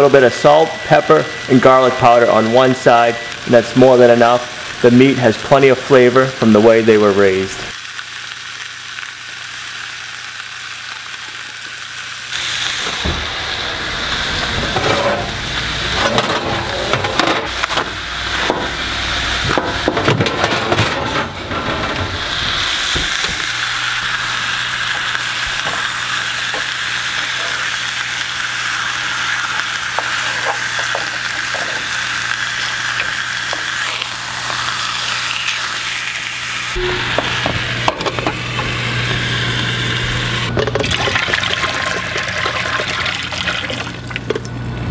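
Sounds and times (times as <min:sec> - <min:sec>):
meat sizzling in a frying pan: 0:00.0 - 0:16.0, 0:22.2 - 0:44.1.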